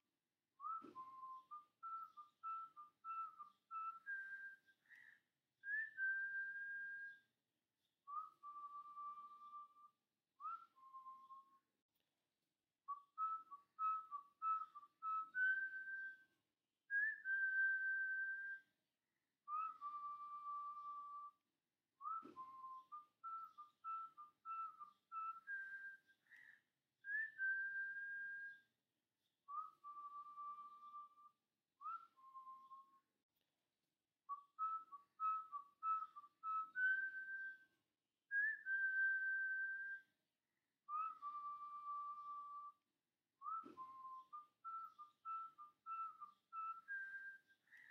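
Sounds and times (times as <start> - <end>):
whistled melody: 0.0 - 12.1, 12.8 - 33.2, 34.2 - 47.9.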